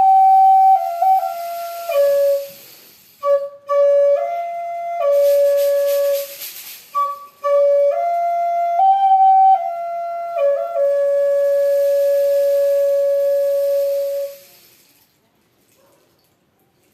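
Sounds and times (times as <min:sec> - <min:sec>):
breathy flute melody: 0:00.0 - 0:14.5.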